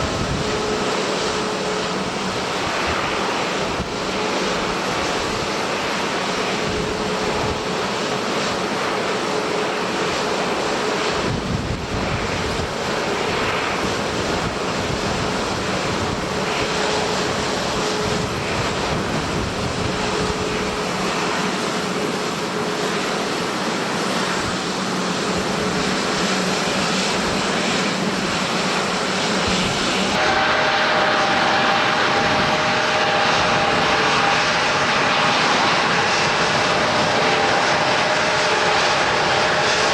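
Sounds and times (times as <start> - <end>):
airliner engines running: 0.0 - 39.9.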